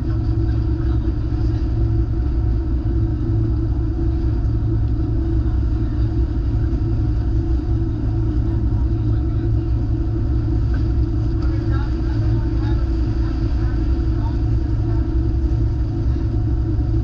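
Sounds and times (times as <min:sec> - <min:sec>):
engine rumble: 0:00.0 - 0:17.0
steady hum: 0:00.0 - 0:17.0.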